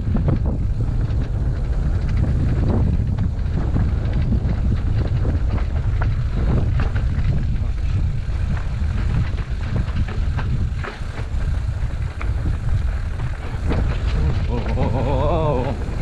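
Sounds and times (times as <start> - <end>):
bike knocking and rattling: 0.0 - 16.0
heavy wind rumble on microphone: 0.0 - 16.0.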